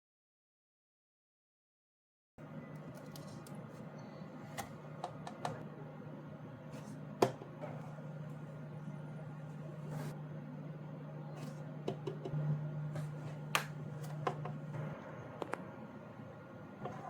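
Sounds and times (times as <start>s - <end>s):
steady low hum: 2.4s - 17.0s.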